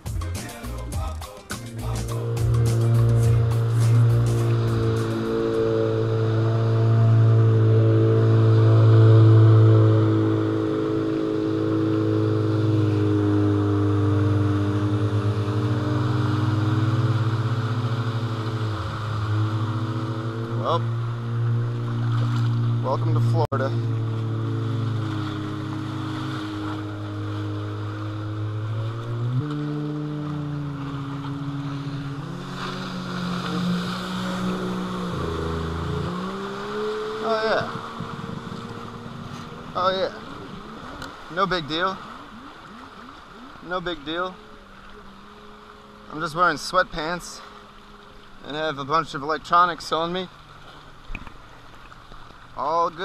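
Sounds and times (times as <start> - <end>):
water spray rushing: 0.0 - 44.4
jet ski engine passing: 0.0 - 53.0.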